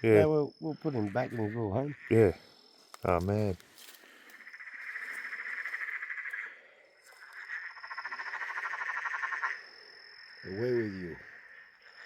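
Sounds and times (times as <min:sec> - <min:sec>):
tree frog rattling trills: 0:00.0 - 0:03.6, 0:04.3 - 0:12.0.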